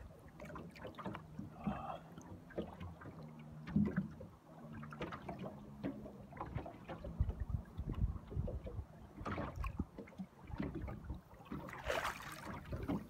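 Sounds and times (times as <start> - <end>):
waves slapping against boat hull: 0.0 - 13.0.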